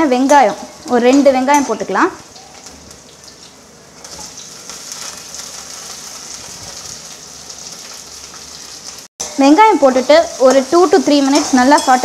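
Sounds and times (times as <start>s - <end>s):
onions sizzling in hot oil: 2.2s - 12.0s.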